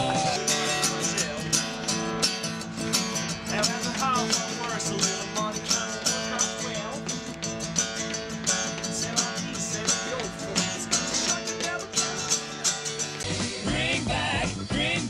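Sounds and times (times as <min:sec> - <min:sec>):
acoustic guitar strumming: 0:00.0 - 0:14.0
voices singing over guitar: 0:00.0 - 0:15.0.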